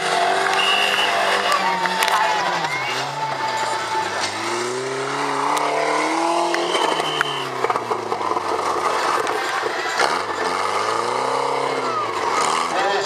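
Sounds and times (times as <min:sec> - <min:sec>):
car engine revving: 0:00.0 - 0:13.0
knocks and metal scraping: 0:01.8 - 0:12.4.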